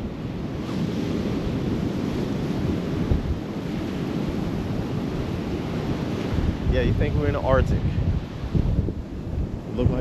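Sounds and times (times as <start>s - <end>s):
ocean surf washing onto beach: 0.0s - 10.0s
wind buffeting microphone: 0.0s - 10.0s.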